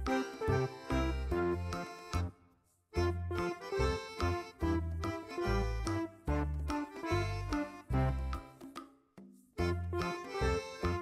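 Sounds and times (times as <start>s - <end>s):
music with bass and keyboard: 0.0s - 8.6s, 9.6s - 11.0s.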